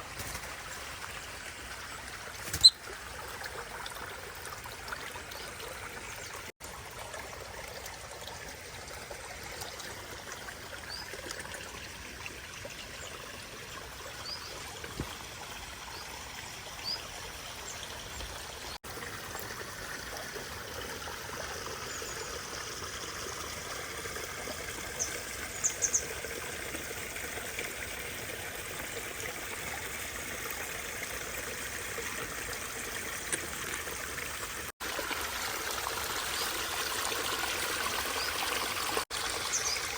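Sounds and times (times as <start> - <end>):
water trickling over rock: 0.0 - 39.9.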